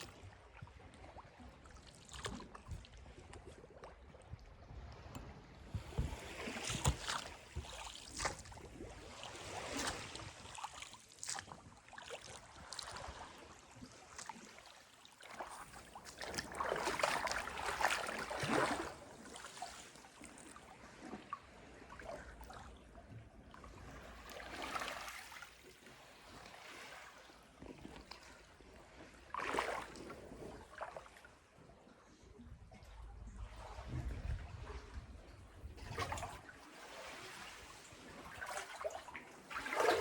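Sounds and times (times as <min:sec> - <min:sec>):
sea water lapping and splashing: 0:00.0 - 0:40.0.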